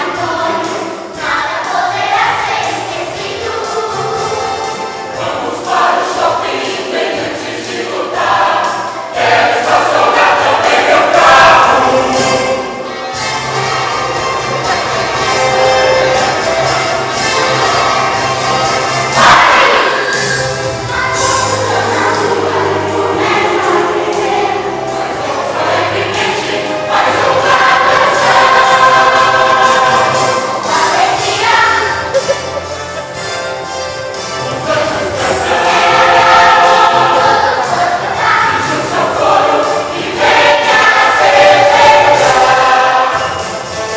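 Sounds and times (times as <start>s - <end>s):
choir singing: 0.0s - 43.9s
instrumental accompaniment: 0.0s - 43.9s.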